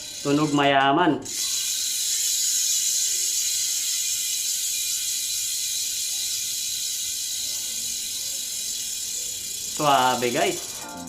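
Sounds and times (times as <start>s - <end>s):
bicycle freehub ratchet buzz: 0.0s - 11.0s.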